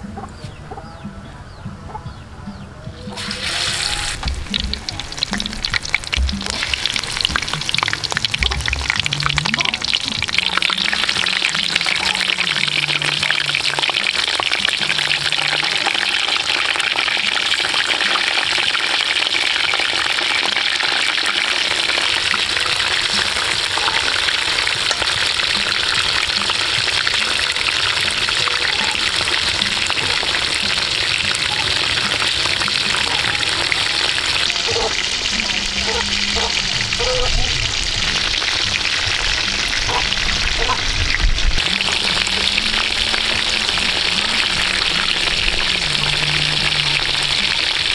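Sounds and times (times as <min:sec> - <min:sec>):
food deep-frying in oil: 0:03.0 - 0:47.9.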